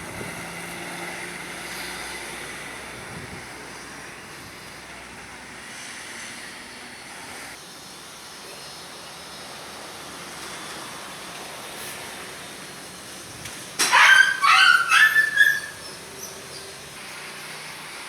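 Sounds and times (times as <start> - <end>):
distant vehicle rumble: 0.0 - 18.0
steady outdoor hiss: 0.0 - 18.0.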